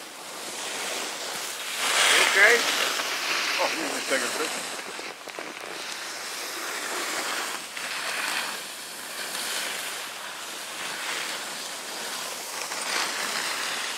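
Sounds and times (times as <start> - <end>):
skis scraping on snow: 0.0 - 13.9
wind rushing over microphone: 0.0 - 13.9.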